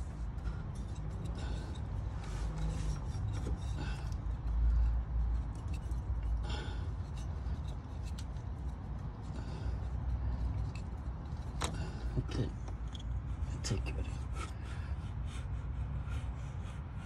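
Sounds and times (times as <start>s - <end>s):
sensor rubbing and scraping: 0.0s - 17.0s.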